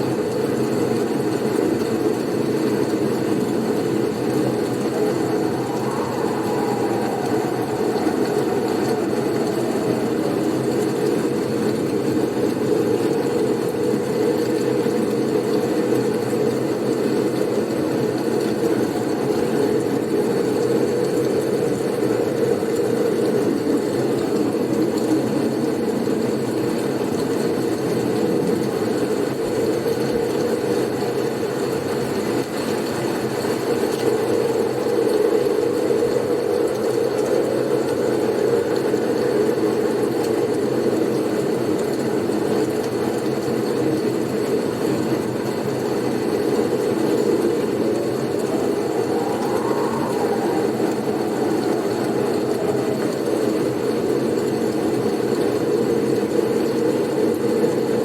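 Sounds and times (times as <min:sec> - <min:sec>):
blizzard wind rushing: 0:00.0 - 0:58.0
faint wind whistling: 0:00.0 - 0:58.0.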